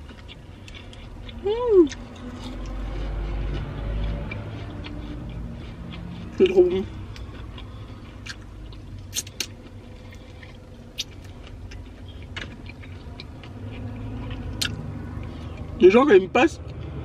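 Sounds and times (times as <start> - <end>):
chewing crispy chicken: 0.0 - 17.0
low steady rumble: 0.0 - 17.0.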